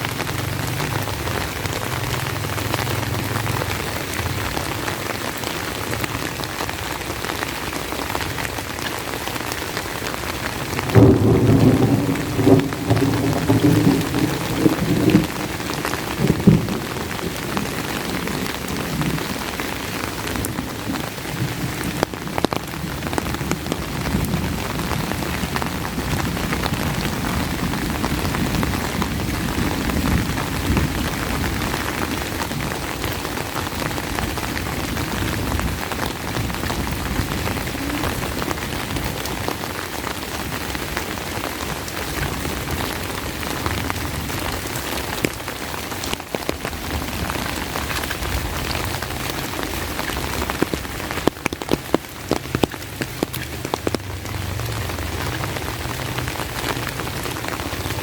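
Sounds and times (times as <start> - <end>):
steady rain falling: 0.0 - 58.0
thunder rumble: 10.6 - 58.0.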